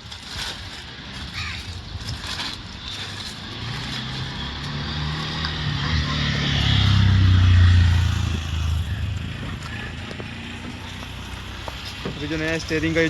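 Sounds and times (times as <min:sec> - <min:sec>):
vehicle engine humming: 0:00.8 - 0:13.0.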